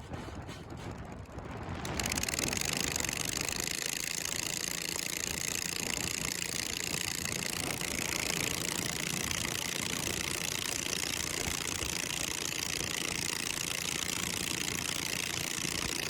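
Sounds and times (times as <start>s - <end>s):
small mower engine running: 0.0s - 16.0s.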